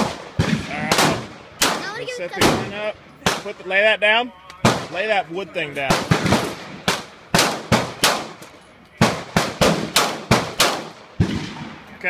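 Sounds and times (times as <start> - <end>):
echoing gunshots: 0.0 - 3.7, 4.6 - 5.2, 5.9 - 11.9.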